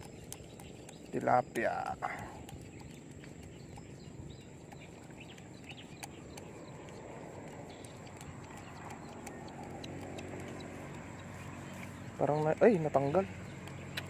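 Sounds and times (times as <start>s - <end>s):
faint bird chirps: 0.0s - 14.0s
small clicks: 0.0s - 14.0s.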